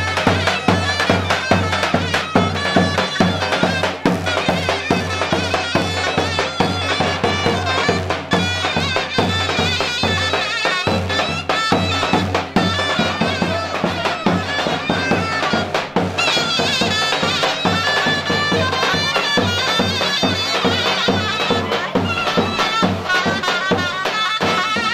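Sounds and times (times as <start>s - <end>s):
shrill reed wind melody: 0.0s - 24.9s
steady drum beat: 0.0s - 24.9s.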